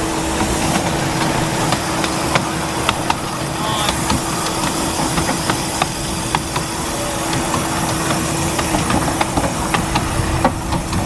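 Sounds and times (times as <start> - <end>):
miniature steam train hiss and rumble: 0.0 - 11.0.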